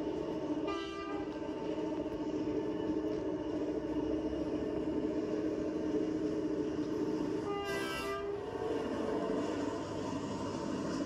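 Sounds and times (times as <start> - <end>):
train drone of held tones: 0.0 - 11.0.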